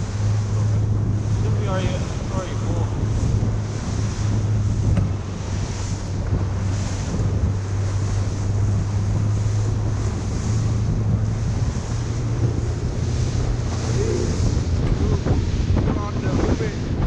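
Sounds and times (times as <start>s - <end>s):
boat engine humming: 0.0s - 17.0s
water washing against hull: 0.0s - 17.0s
wind buffeting microphone: 0.0s - 17.0s.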